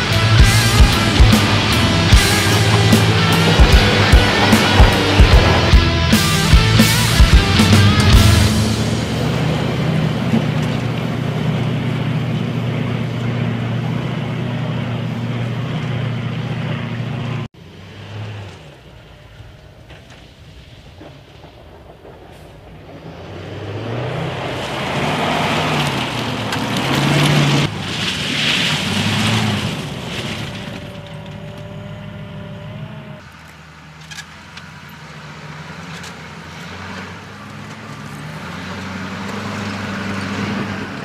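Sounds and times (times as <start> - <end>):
truck diesel engine revving: 0.0 - 41.0
tyres crunching on gravel: 0.0 - 41.0.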